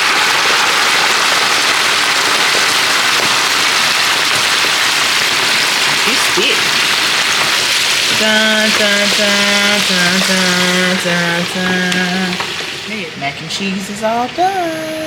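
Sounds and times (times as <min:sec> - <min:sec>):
turkey deep-frying in hot oil: 0:00.0 - 0:15.0.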